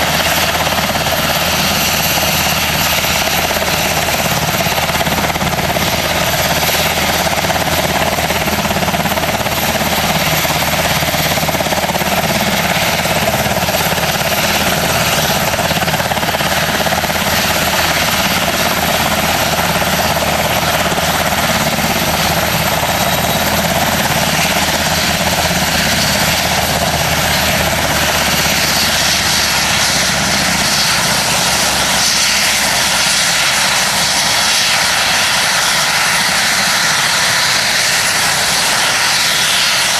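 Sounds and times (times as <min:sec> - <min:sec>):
helicopter engines and rotor: 0:00.0 - 0:39.9
high turbine whine: 0:00.0 - 0:39.9.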